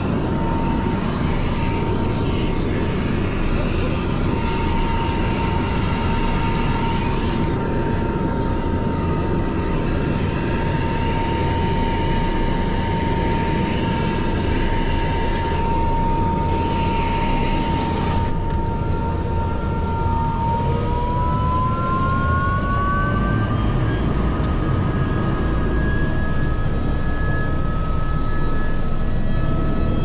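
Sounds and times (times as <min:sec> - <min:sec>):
helicopter rotor and engine noise: 0:00.0 - 0:30.0.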